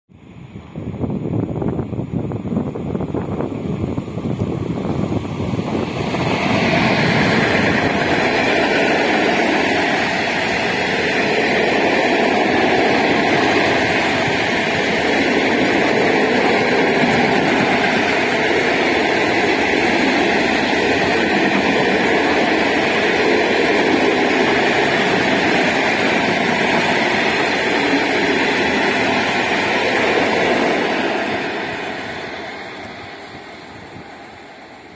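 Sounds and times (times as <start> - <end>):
freight train wheels on rails: 0.4 - 34.9.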